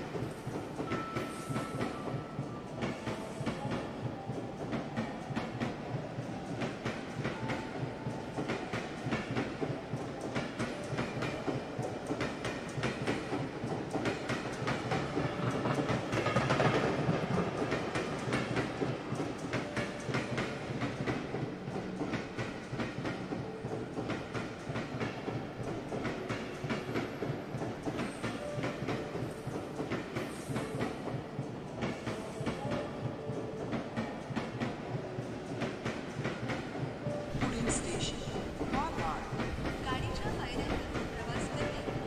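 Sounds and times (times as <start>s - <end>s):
train wheels clattering over rails: 0.0s - 42.0s.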